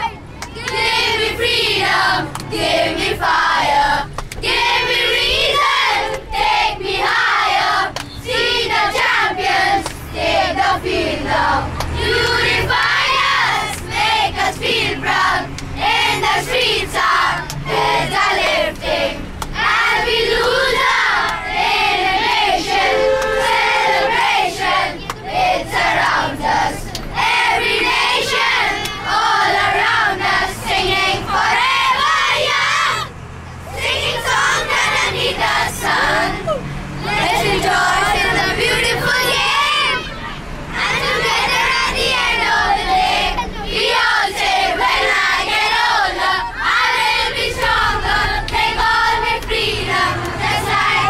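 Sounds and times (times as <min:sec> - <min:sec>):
boys singing and shouting: 0:00.0 - 0:51.0.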